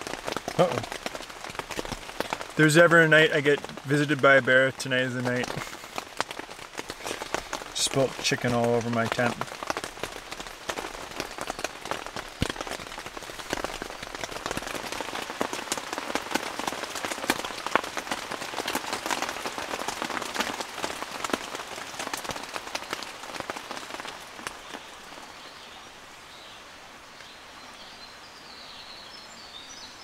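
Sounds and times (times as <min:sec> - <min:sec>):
raindrop hits ticking: 0:00.0 - 0:25.3
rain falling on a tent: 0:00.0 - 0:30.0.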